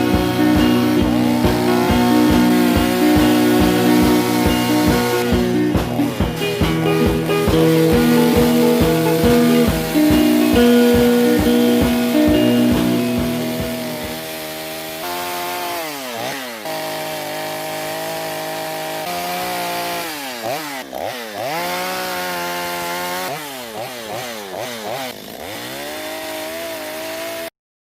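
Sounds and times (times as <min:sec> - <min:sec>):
chainsaw engine idling and revving: 0:00.0 - 0:27.5.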